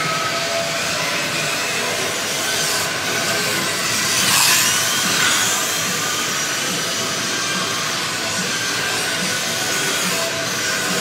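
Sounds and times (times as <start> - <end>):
slot car motors whining: 0.0 - 11.0.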